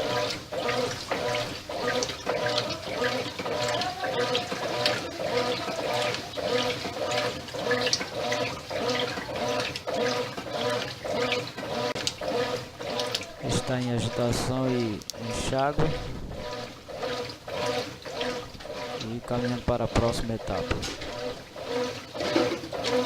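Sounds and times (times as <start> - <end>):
motor hum: 0.0 - 23.0
washing machine water swishing: 0.0 - 23.0.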